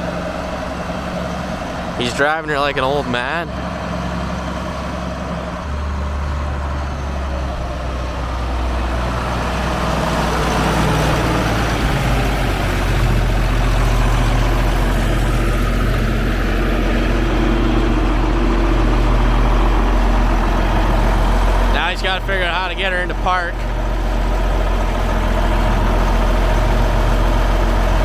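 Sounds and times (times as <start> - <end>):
tractor diesel engine drone: 0.0 - 28.0.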